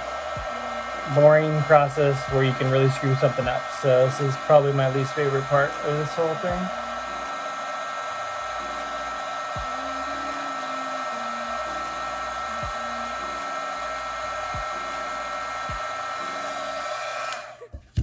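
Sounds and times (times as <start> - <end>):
heat gun blowing with whine: 0.0 - 17.8.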